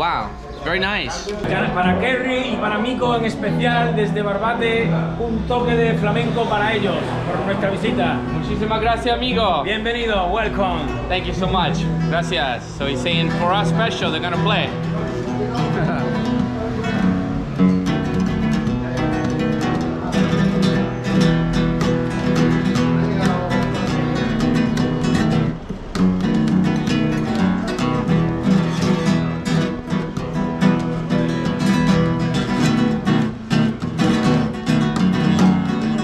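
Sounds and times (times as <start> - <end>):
flamenco guitar strumming: 1.2 - 36.0.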